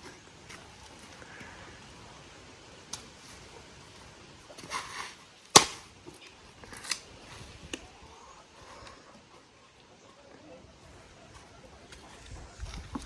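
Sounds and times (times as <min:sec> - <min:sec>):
branches rustling: 0:00.0 - 0:13.0.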